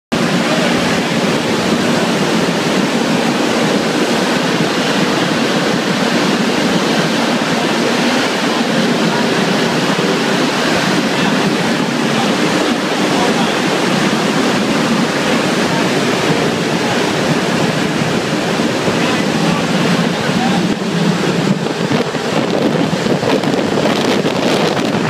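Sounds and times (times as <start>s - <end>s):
aircraft engines running: 0.1s - 25.0s
slipstream rushing: 0.1s - 25.0s.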